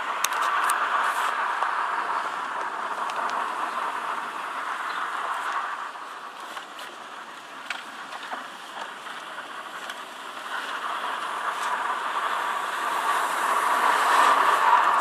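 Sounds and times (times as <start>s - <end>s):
breathy whooshing engine air noise: 0.0s - 7.3s, 9.0s - 15.0s.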